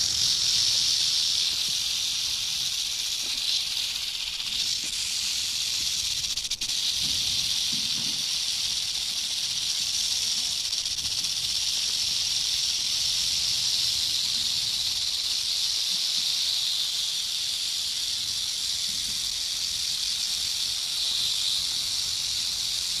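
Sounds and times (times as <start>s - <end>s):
rattlesnake tail rattling: 0.0s - 23.0s.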